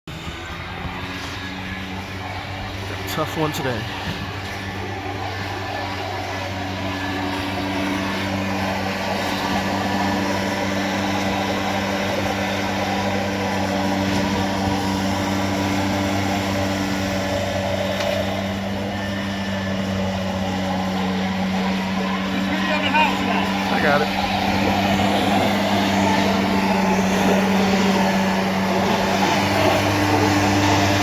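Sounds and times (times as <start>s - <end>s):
pressure washer engine drone: 0.0s - 31.0s.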